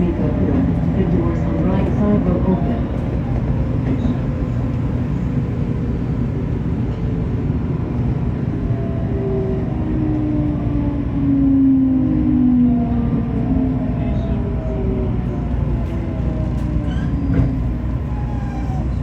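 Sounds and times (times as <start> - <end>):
electric train rumbling on rails: 0.0 - 19.0.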